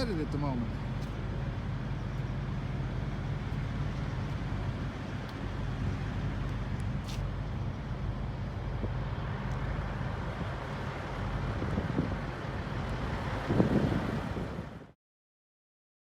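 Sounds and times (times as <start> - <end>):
truck engine idling: 0.0 - 13.4.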